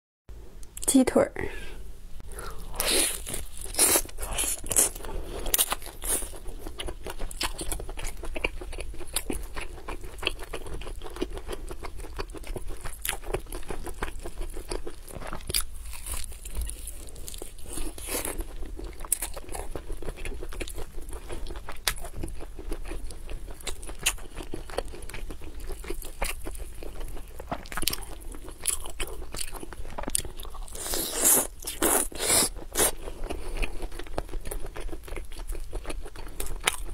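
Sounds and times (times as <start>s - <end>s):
person chewing crunchy chicken: 2.4s - 36.9s.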